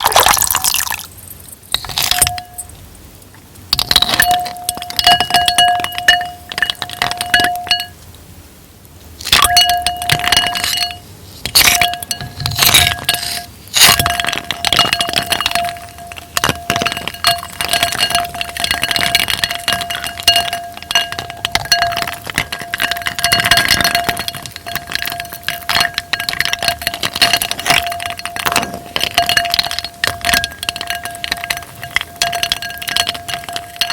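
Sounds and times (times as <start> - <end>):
ice clinking against a glass: 0.0 - 2.8, 3.7 - 8.0, 9.2 - 33.9
glass ringing: 0.3 - 2.8, 3.7 - 8.0, 9.2 - 33.9.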